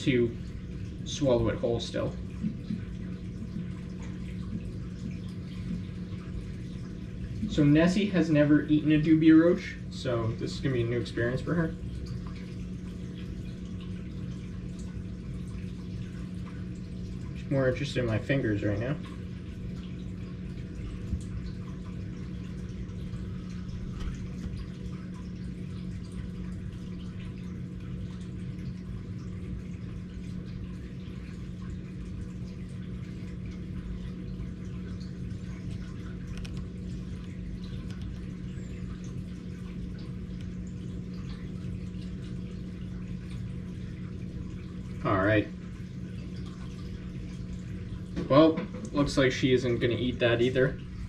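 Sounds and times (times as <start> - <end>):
low hum: 0.0 - 51.0
water trickling and dripping: 0.0 - 51.0.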